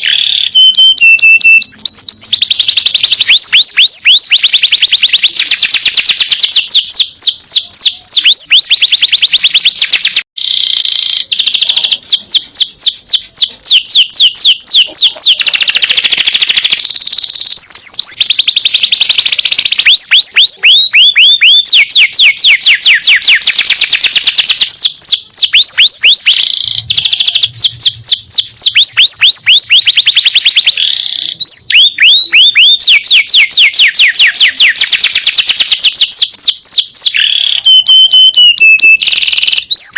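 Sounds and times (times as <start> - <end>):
canary singing in rapid trills: 0.0 - 39.9.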